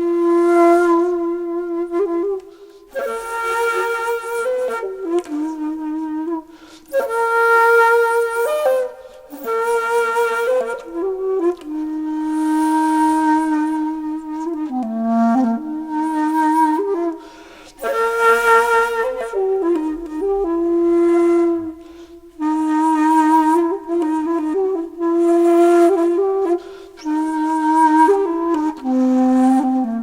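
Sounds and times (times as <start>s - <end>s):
solo flute playing: 0.0s - 30.0s.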